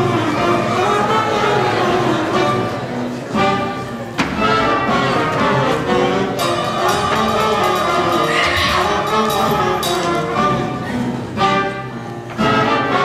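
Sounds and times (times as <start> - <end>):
orchestral strings and brass: 0.0 - 13.0.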